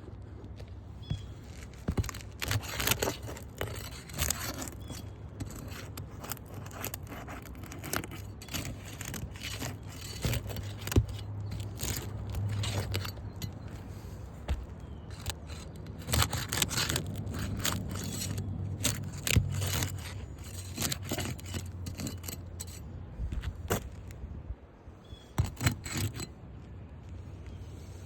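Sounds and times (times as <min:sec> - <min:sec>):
roof shingles scraping and crackling: 0:00.2 - 0:24.1.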